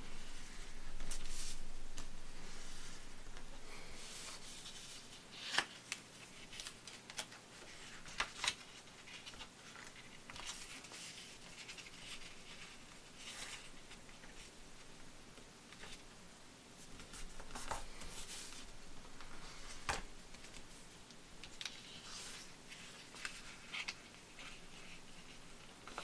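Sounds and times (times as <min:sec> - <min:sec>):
paper rustling and scraping: 0:00.2 - 0:14.5, 0:16.8 - 0:20.7, 0:21.6 - 0:26.0.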